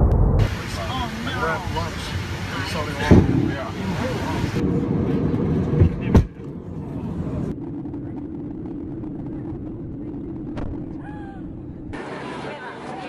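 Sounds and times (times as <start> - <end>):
jet engine and airflow rumble: 0.0 - 13.0.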